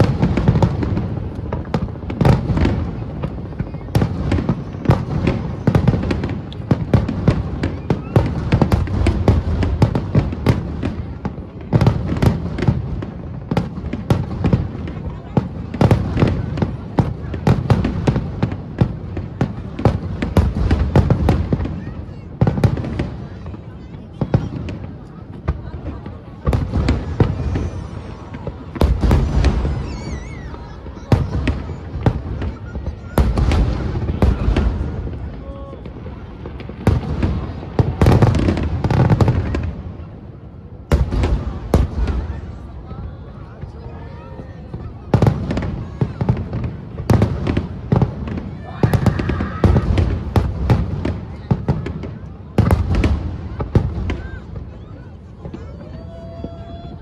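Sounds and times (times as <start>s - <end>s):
fireworks exploding: 0.0s - 57.0s.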